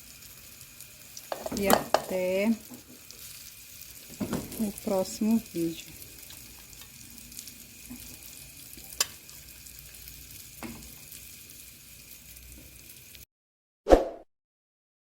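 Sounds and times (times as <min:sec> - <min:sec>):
oil sizzling in frying pan: 0:00.0 - 0:13.3.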